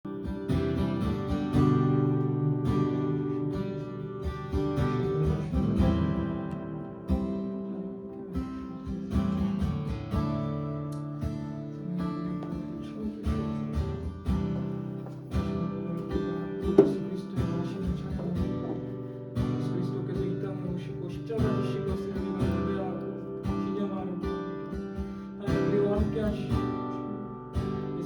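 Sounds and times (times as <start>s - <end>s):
acoustic guitar strumming chords: 0.1s - 28.0s.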